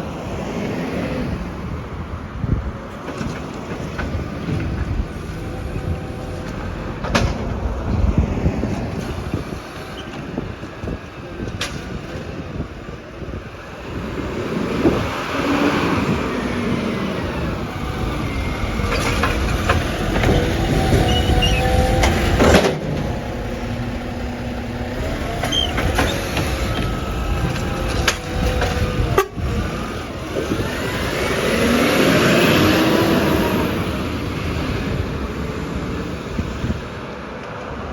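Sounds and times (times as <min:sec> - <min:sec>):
vehicles passing: 0:00.0 - 0:37.9
garbage truck engine running: 0:02.9 - 0:36.9.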